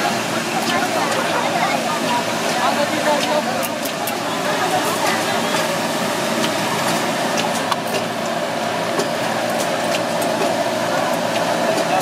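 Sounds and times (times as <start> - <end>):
oil sizzling in a deep fryer: 0.0 - 12.0.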